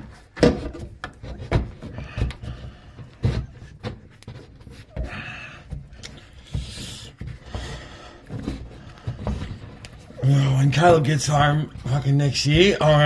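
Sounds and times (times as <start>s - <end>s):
knocks and clunks: 0.0s - 13.0s
scraping or rustling: 0.0s - 13.0s.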